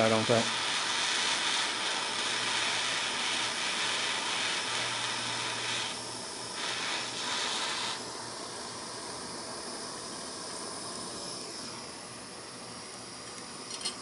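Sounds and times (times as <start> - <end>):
gas torch flame hissing: 0.0 - 12.2.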